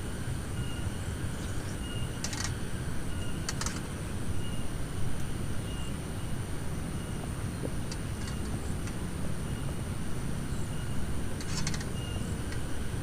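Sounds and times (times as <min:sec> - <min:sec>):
wind and rain rumble: 0:00.0 - 0:13.0.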